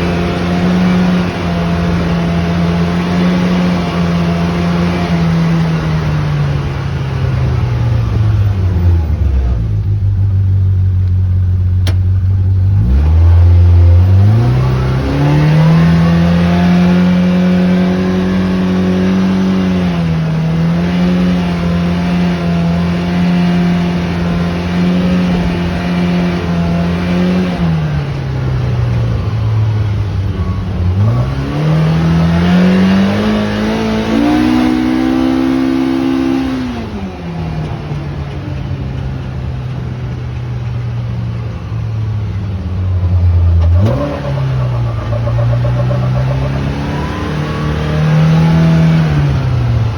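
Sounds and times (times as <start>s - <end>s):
vehicle engine running: 0.0s - 49.9s.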